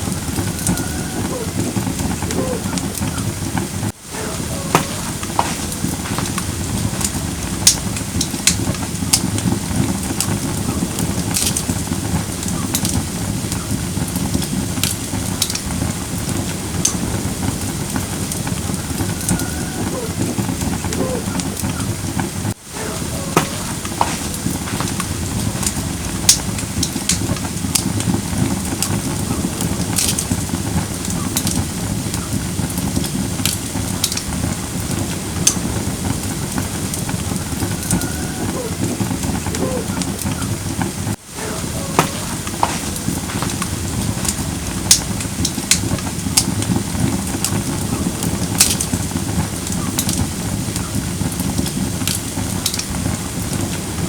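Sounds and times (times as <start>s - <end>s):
fire pops and snaps: 0.0s - 54.0s
firewood crackling: 0.0s - 54.0s.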